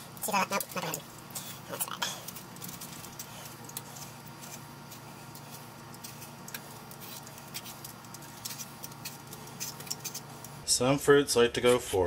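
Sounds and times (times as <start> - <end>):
peeler scraping pear skin: 0.3 - 10.6.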